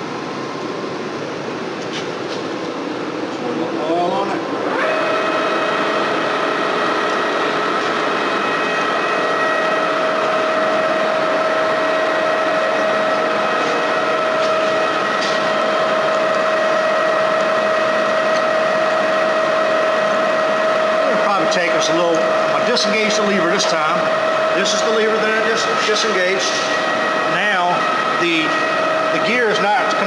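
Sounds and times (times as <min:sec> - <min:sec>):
lathe running with steady whine: 0:00.0 - 0:30.0.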